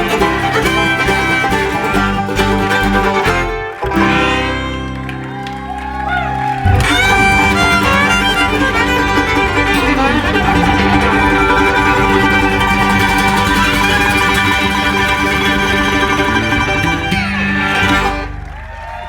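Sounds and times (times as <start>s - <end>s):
bluegrass string band playing: 0.0s - 18.9s.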